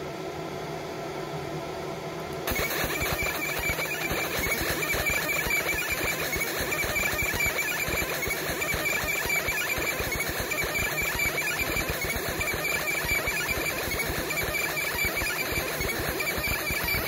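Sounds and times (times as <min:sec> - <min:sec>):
high laser whine: 0:02.5 - 0:17.0
laser crackling buzz on metal: 0:02.5 - 0:17.0.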